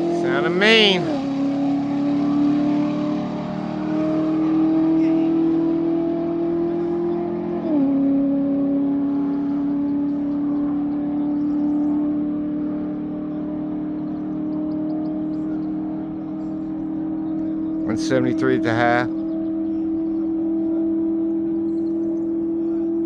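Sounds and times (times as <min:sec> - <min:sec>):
distant race car engine: 0:00.0 - 0:23.0.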